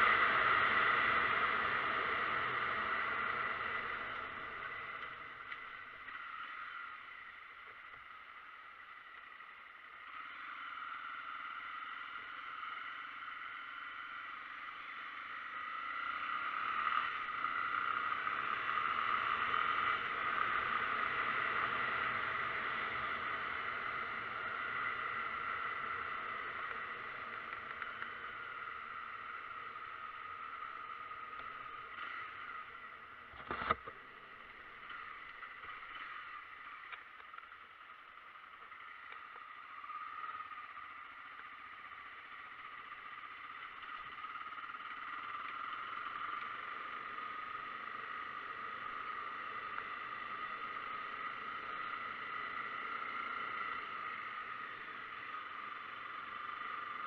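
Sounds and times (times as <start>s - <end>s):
vehicle engine and tyre noise: 0.0s - 57.0s.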